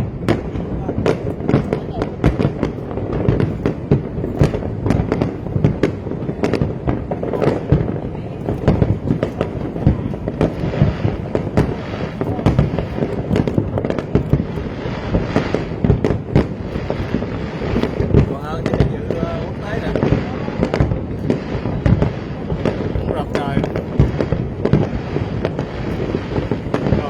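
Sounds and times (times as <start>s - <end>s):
dense low rumble: 0.0s - 27.0s
fireworks bangs and cracks: 0.0s - 27.0s.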